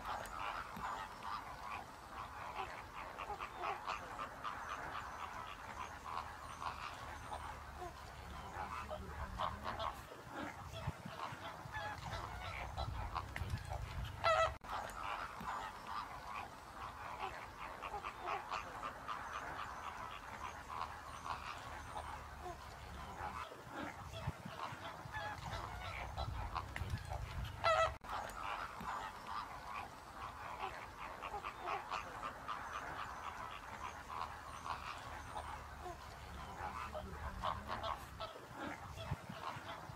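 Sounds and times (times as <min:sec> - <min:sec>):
flamingos honking and gabbling: 0:00.0 - 0:39.9.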